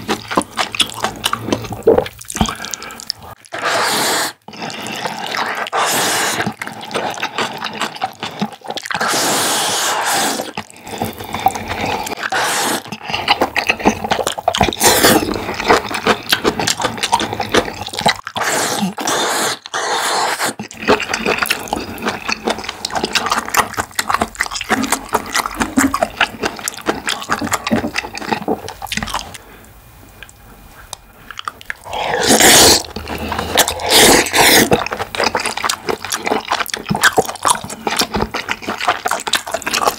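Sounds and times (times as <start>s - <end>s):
wet chewing noodles: 0.0s - 39.9s.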